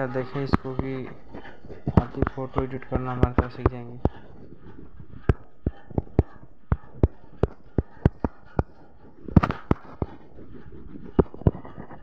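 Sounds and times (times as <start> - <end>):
fingertips tapping touchscreen: 0.0 - 12.0.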